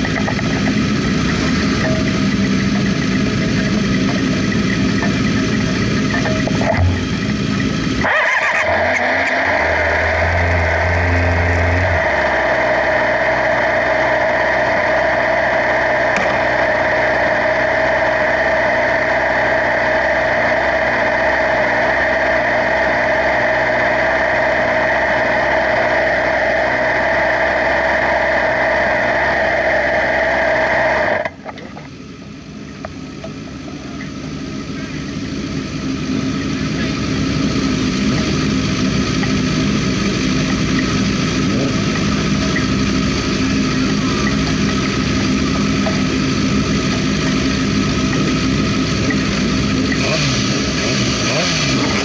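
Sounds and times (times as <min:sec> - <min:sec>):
loud motorcycle engine running: 0:00.0 - 0:52.0
quieter engine: 0:00.0 - 0:52.0.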